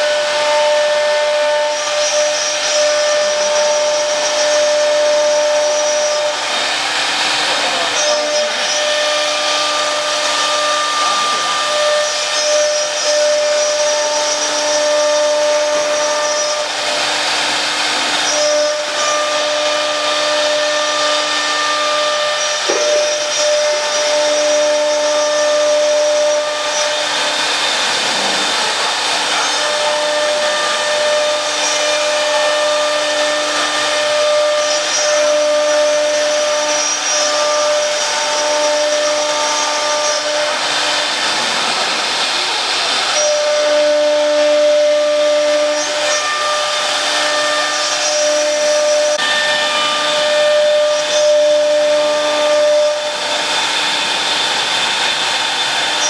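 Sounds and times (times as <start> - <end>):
high spindle whine: 0.0 - 56.0
router cutting board rushing: 0.0 - 56.0.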